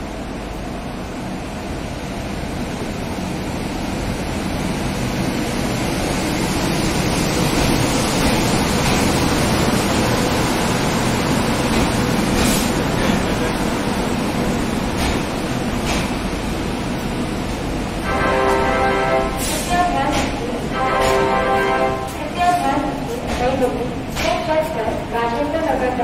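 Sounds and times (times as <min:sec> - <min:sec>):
express train rumbling: 0:00.0 - 0:26.0.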